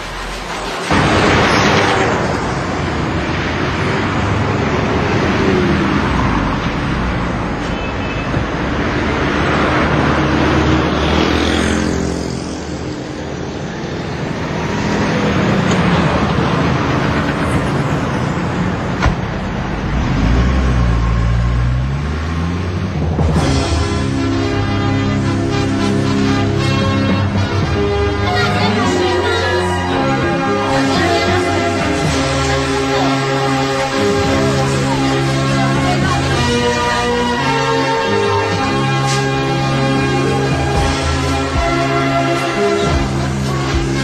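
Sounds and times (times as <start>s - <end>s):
cars and scooters passing: 0.0s - 44.0s.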